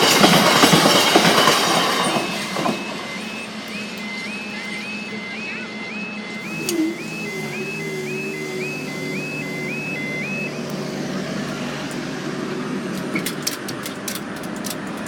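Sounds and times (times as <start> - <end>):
level crossing warning alarm: 0.0 - 12.6
low hum of engines: 2.7 - 15.0.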